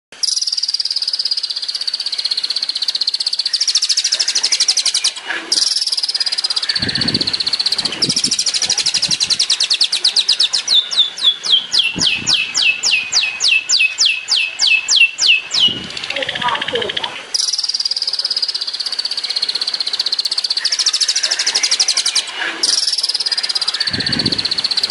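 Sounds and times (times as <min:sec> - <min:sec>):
bird singing high trill: 0:00.2 - 0:24.9.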